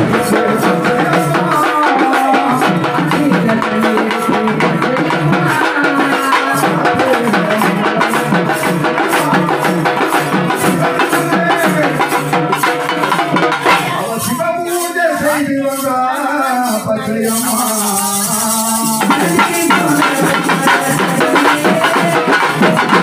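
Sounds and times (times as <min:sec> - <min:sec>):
folk drum ensemble playing: 0:00.0 - 0:23.0.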